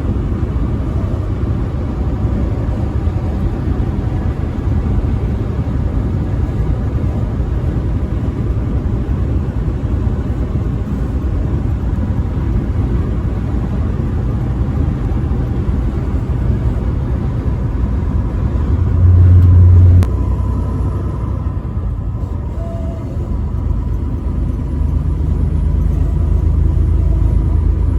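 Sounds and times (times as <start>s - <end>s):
loud low hum: 0.0s - 27.9s
truck engine and road rumble: 0.0s - 27.9s.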